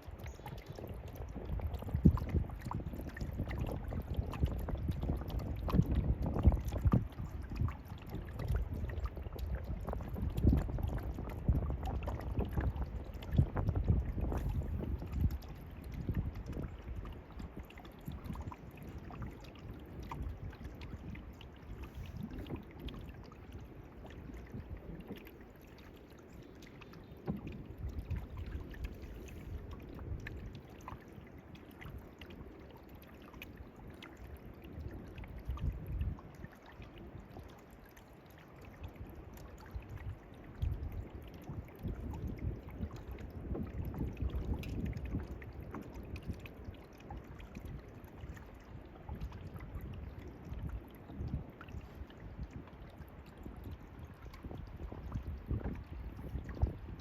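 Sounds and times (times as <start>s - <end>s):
paddle splashing water: 0.0s - 57.0s
water lapping at hull: 0.0s - 57.0s
wind rumble on microphone: 0.0s - 57.0s.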